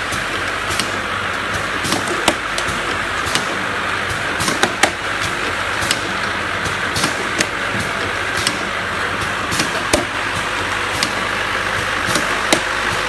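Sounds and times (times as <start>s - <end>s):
machine whirring: 0.0s - 13.0s
machine clicks and knocks: 0.1s - 13.0s.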